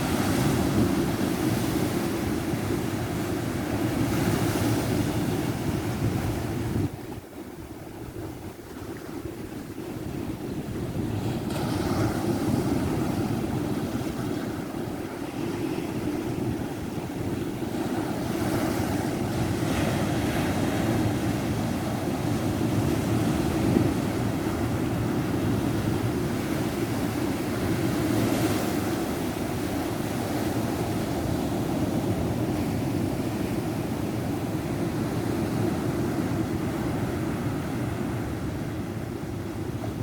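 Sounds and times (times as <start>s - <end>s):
ocean surf breaking on beach: 0.0s - 40.0s.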